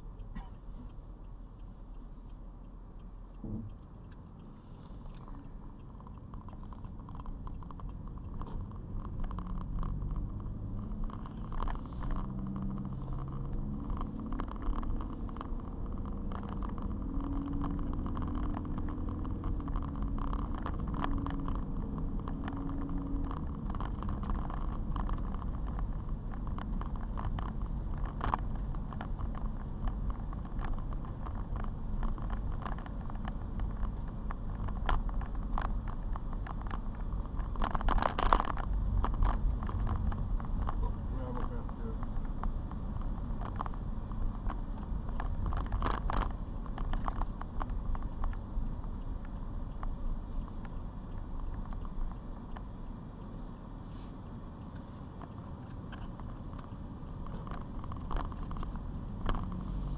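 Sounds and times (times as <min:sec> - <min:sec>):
car engine accelerating: 0:00.0 - 0:59.9
light ticks: 0:00.0 - 0:59.9
tyres on wet road: 0:00.0 - 0:59.9.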